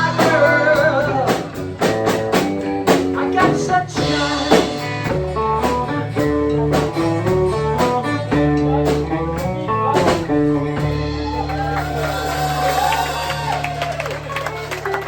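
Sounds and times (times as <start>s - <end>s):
bass line: 0.0s - 15.0s
blues guitar picking: 0.0s - 15.0s.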